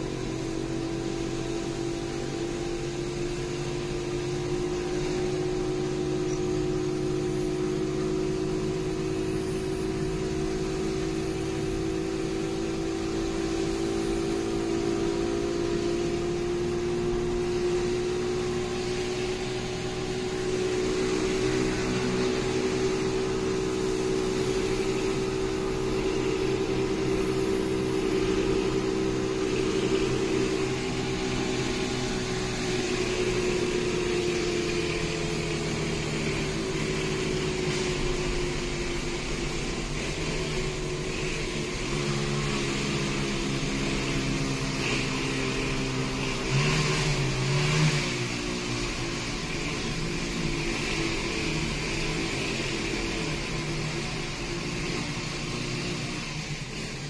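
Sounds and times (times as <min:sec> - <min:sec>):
fan-like drone: 0:00.0 - 0:57.0
road noise: 0:00.0 - 0:57.0.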